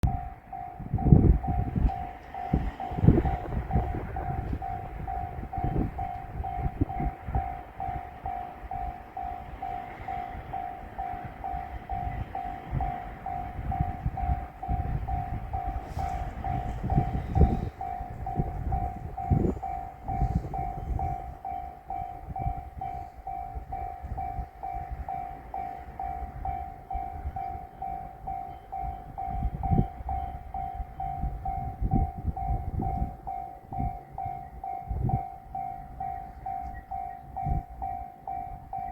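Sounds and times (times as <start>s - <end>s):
higher-pitched ring: 0.0s - 38.9s
level crossing warning bell: 0.0s - 38.9s
low train rumble: 0.0s - 38.9s.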